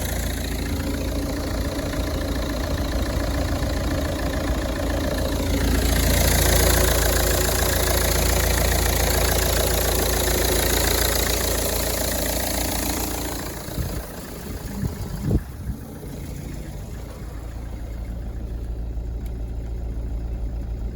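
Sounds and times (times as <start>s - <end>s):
diesel engine revving and idling: 0.0s - 20.9s.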